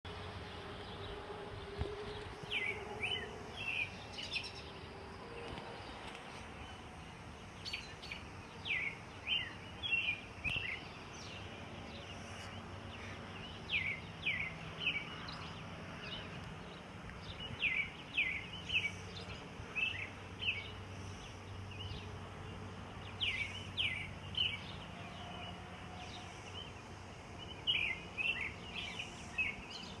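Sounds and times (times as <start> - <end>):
birds chirping: 0.1 - 30.0.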